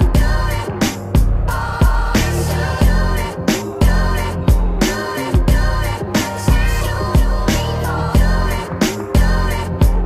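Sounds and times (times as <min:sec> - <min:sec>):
music with bass-drum beat: 0:00.0 - 0:10.0.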